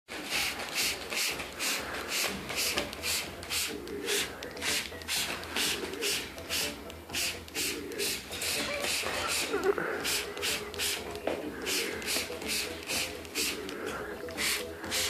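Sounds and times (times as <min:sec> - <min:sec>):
spray bottle hissing mist: 0:00.2 - 0:15.0.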